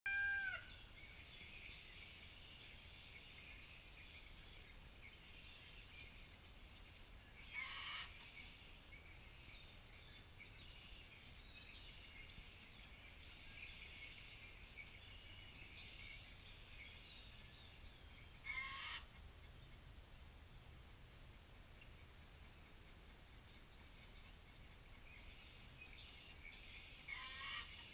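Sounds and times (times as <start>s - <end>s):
small birds chirping: 0.5s - 27.9s.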